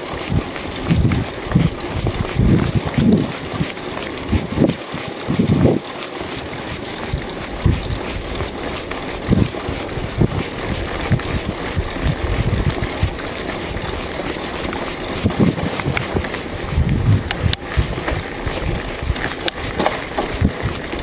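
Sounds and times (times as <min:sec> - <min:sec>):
mountain bike tyre rumble and rattle: 0:00.0 - 0:21.0
wheels knocking on bumps: 0:00.0 - 0:21.0
wind buffeting microphone: 0:00.0 - 0:21.0.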